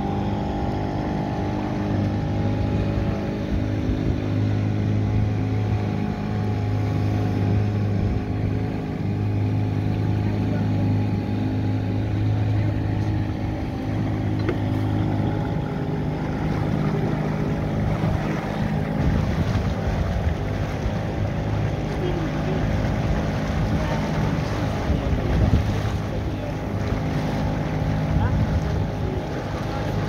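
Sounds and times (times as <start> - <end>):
boat engine running: 0.0 - 30.0
water wash alongside boat: 0.0 - 30.0.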